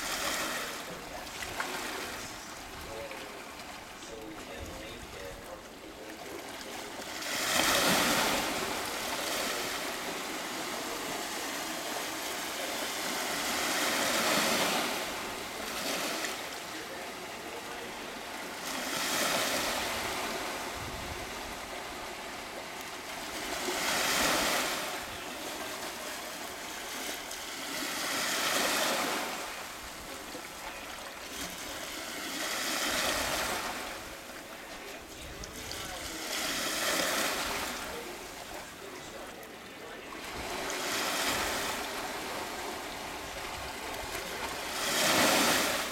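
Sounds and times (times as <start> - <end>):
small waves washing ashore: 0.0 - 45.9.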